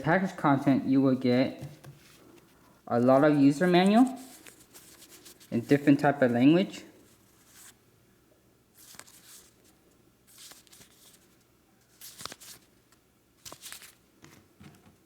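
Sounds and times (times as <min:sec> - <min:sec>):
paper rustling: 0:00.0 - 0:07.8, 0:08.8 - 0:12.8, 0:13.4 - 0:14.9.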